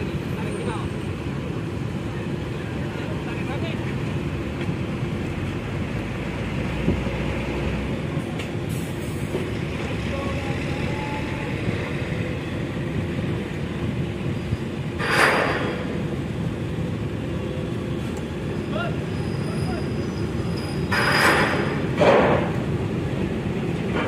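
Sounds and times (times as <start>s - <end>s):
ferry engines rumbling: 0.0s - 24.0s.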